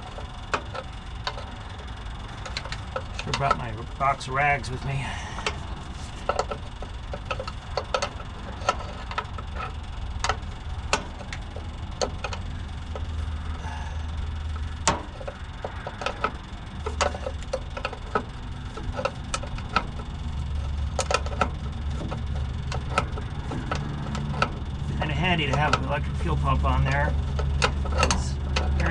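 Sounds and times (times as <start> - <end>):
fuel pump clicking: 0.0 - 28.9
low steady hum: 0.0 - 28.9.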